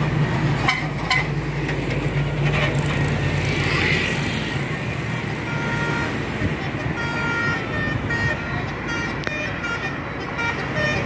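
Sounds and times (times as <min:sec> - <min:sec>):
bus engine running: 0:00.0 - 0:11.0
road noise: 0:00.0 - 0:11.0.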